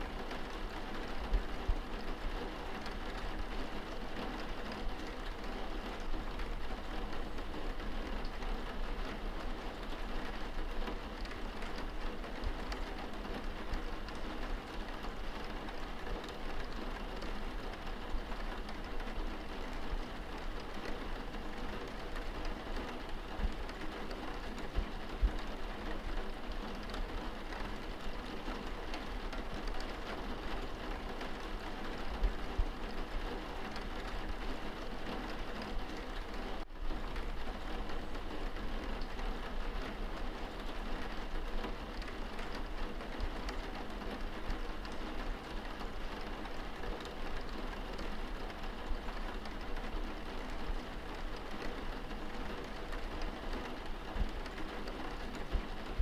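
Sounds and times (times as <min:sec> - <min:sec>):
rain on window glass: 0:00.0 - 0:56.0.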